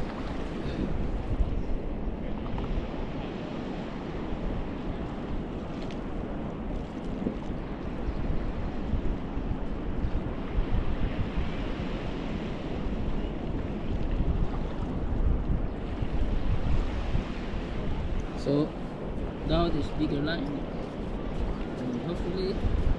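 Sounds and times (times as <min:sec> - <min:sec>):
sea waves washing on beach: 0:00.0 - 0:22.9
wind on microphone: 0:00.0 - 0:22.9.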